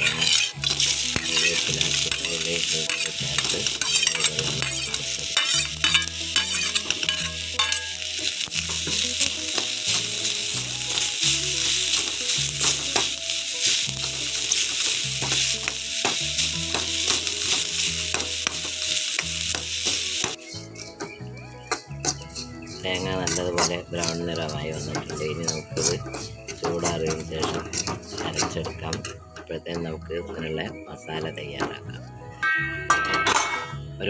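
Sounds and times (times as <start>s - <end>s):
steel spoon scraping a pan: 0.0s - 21.0s, 21.7s - 29.2s
coconut sizzling in hot oil: 0.0s - 28.8s.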